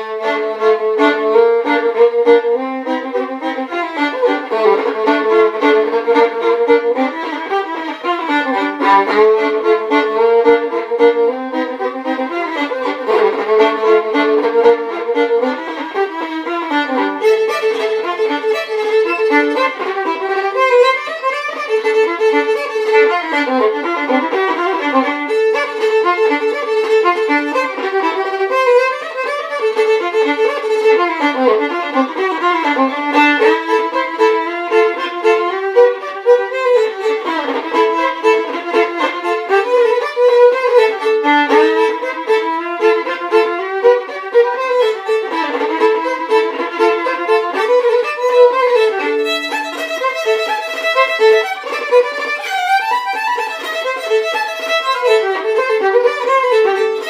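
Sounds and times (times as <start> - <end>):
solo violin melody: 0.0 - 57.0.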